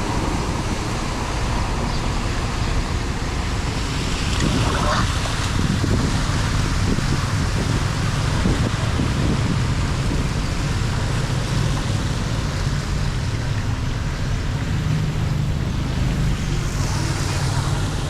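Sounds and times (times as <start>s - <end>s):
floodwater rushing down drain: 0.0s - 18.0s.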